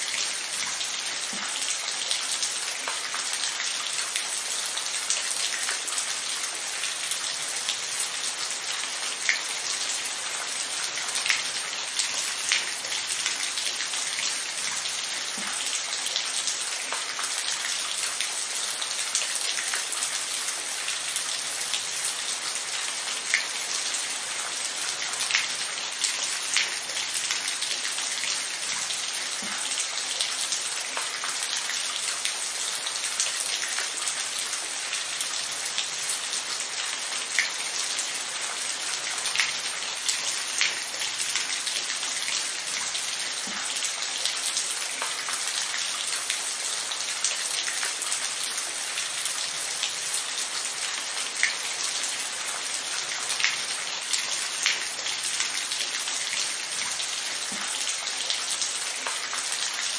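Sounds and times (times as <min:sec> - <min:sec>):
steady rain on a surface: 0:00.0 - 0:59.9.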